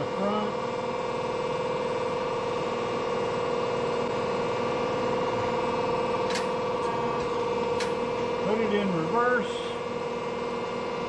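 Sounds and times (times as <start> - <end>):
hydraulic press motor humming: 0.0 - 11.0.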